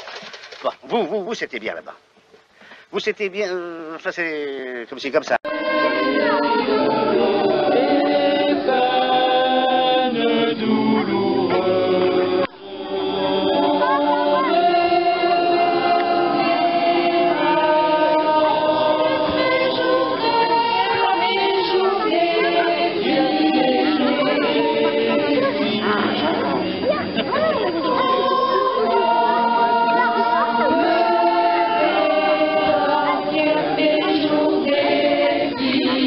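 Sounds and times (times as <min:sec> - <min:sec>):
choir singing unaccompanied: 0:05.5 - 0:36.0.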